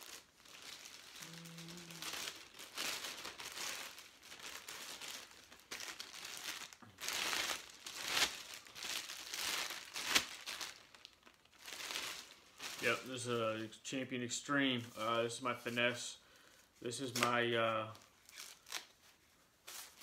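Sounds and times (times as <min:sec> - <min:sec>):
plastic sleeve crinkling: 0:00.0 - 0:20.0.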